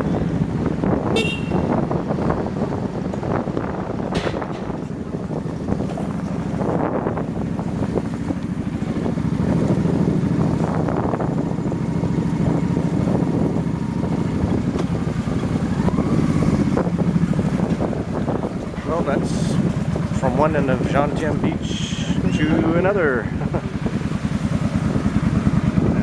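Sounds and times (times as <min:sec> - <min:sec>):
motorbike engine running: 0:00.0 - 0:26.0
wind buffeting microphone: 0:00.0 - 0:26.0.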